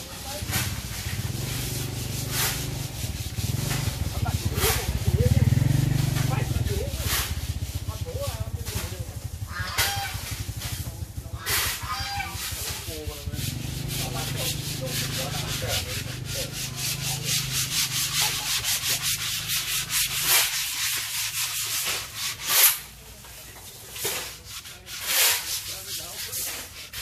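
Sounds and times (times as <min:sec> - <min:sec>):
sandpaper sanding wood: 0:00.0 - 0:27.0.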